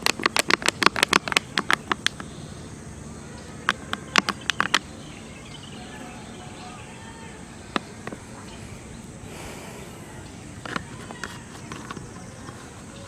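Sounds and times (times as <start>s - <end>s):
faint hiss: 0.0s - 13.0s
rapid sharp clicks: 0.0s - 13.0s.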